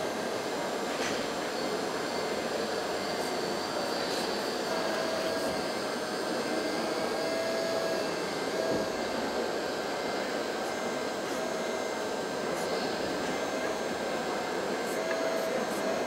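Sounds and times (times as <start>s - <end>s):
hydraulic pump whining: 0.0s - 15.4s
hum of a crowded hall: 0.0s - 16.0s.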